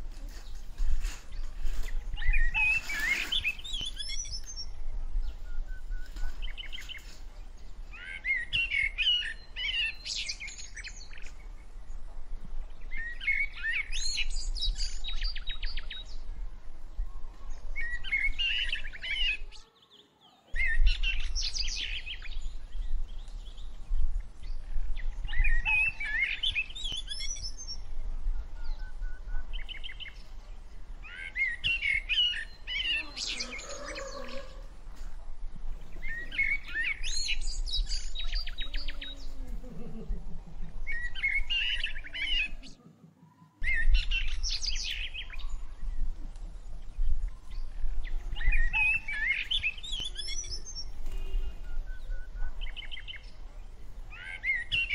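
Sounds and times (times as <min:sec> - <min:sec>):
songbirds chirping and singing: 0:00.0 - 0:54.9.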